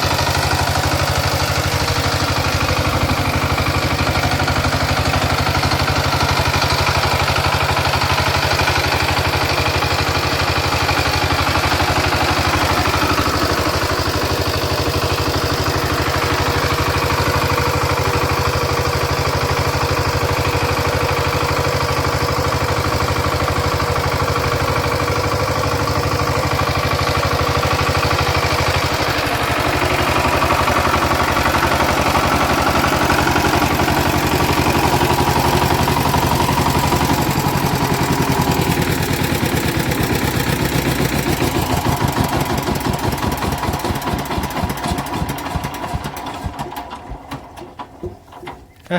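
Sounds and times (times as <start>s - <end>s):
power tiller engine chugging: 0.0s - 48.9s.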